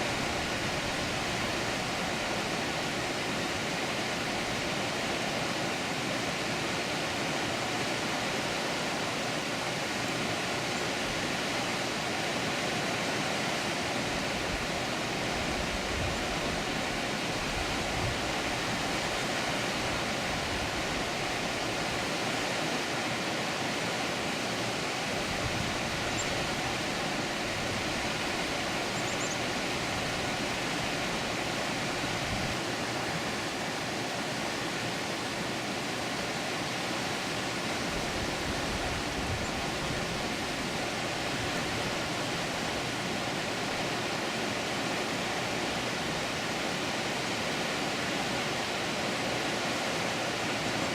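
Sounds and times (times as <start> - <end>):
water rushing over a dam: 0.0 - 50.9.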